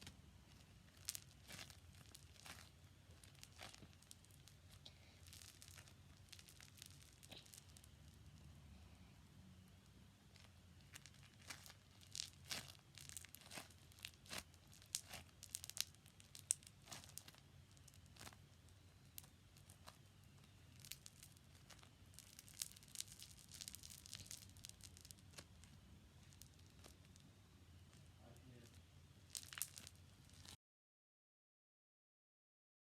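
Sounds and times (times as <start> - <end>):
slime crackling and popping: 0.0 - 8.4, 10.2 - 27.2, 28.5 - 30.6.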